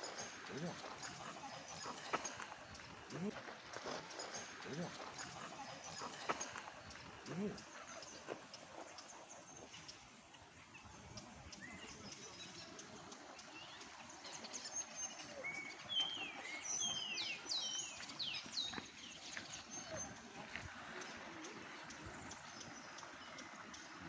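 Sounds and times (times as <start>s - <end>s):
faint outdoor hiss: 0.0s - 24.0s
songbirds chirping: 0.0s - 24.0s.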